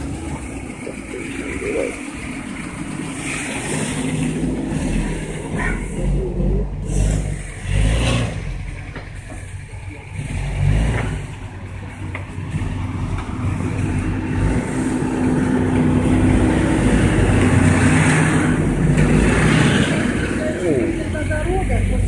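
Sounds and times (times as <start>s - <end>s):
traffic driving through slush: 0.0s - 22.0s
truck engine: 0.0s - 22.0s.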